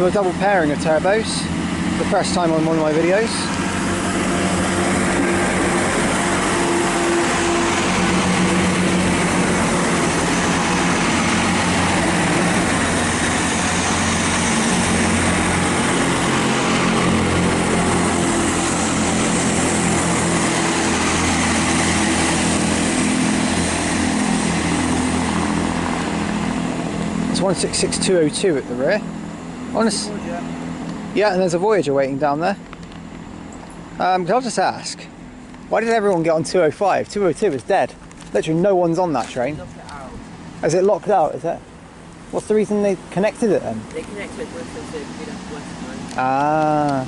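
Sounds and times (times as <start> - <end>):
train diesel engines running: 0.0 - 47.0.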